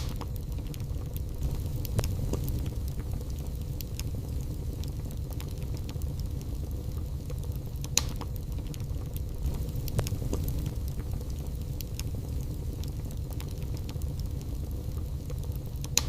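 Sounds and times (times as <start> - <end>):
fire crackling: 0.0 - 16.0
loud fire pops: 0.0 - 16.0
low rumble of flames: 0.0 - 16.0.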